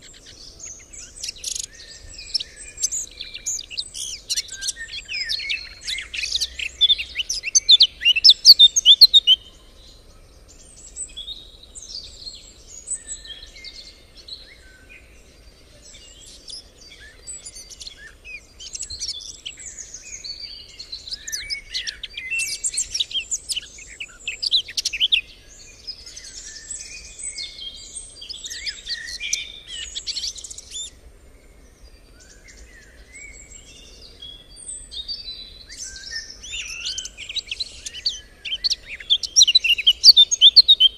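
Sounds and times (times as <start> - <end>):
songbirds singing and chirping: 0.0 - 40.9.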